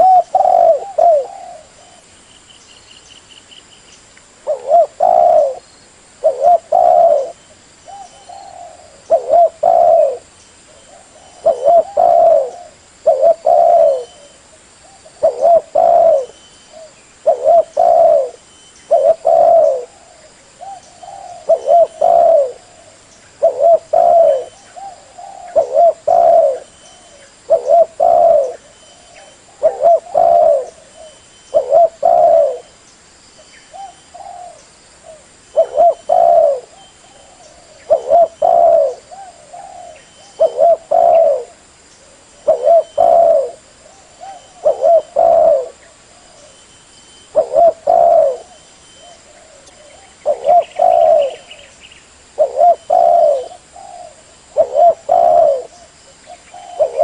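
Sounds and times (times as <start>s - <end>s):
dove cooing: 0.0s - 2.2s, 4.4s - 32.8s, 33.7s - 51.7s, 52.3s - 57.0s.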